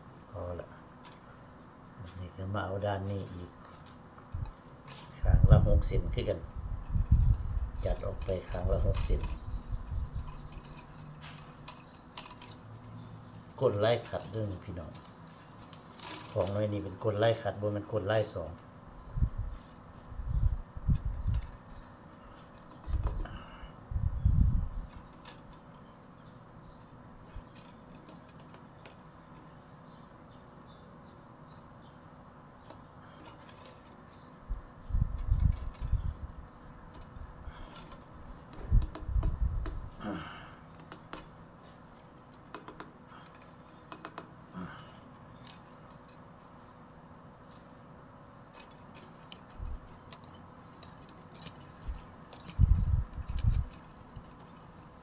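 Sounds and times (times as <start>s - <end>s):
bamboo strips clicking and rustling: 0.0s - 55.0s.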